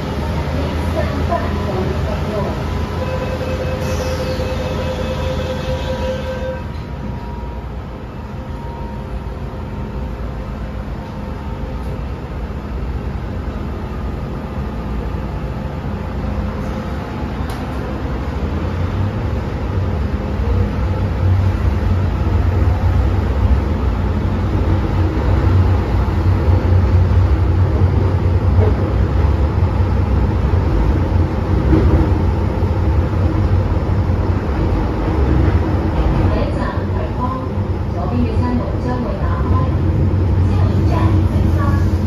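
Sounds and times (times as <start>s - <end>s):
metro train rumbling on track: 0.0s - 42.0s.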